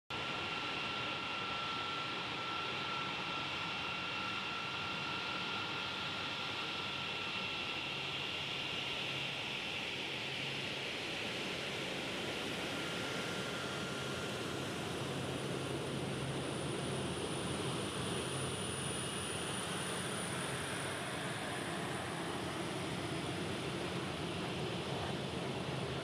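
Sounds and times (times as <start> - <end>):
jet engines at taxi power: 0.1 - 26.0.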